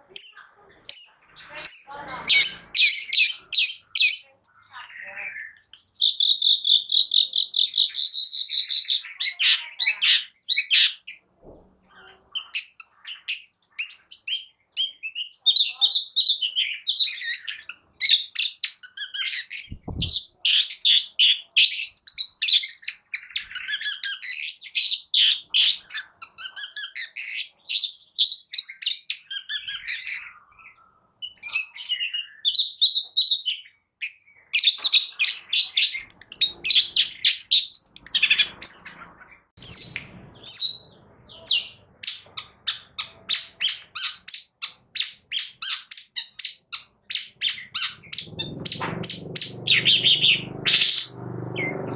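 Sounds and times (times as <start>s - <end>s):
bird singing chirps and trills: 0.0s - 11.3s, 12.0s - 51.9s.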